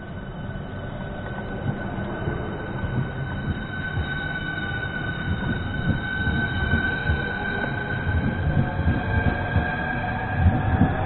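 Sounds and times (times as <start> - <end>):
rumble of train wheels: 0.0 - 11.0
train high-pitched whine: 0.0 - 11.0.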